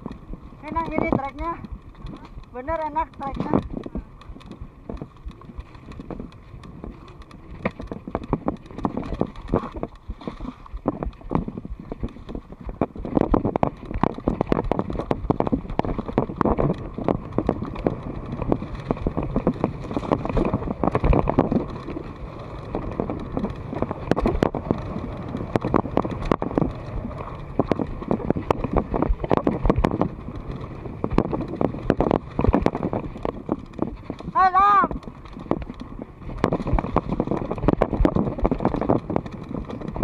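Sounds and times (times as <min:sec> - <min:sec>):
bike clattering over bumps: 0:00.0 - 0:40.0
tyres on dirt: 0:00.0 - 0:40.0
wind on microphone: 0:00.0 - 0:40.0.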